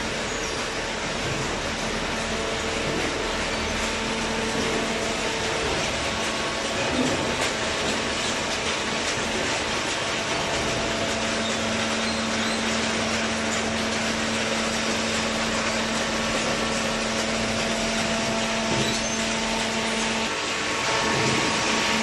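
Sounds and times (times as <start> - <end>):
baler machine noise: 0.0 - 22.0
motor and hydraulic pump hum: 0.0 - 22.0.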